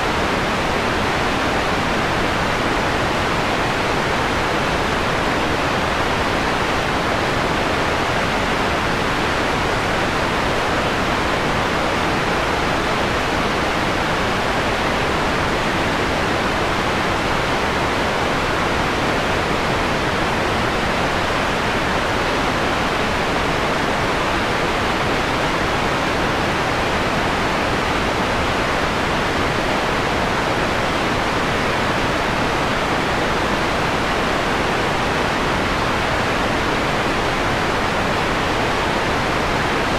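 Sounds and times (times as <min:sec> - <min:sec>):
filtered white noise: 0:00.0 - 0:39.9.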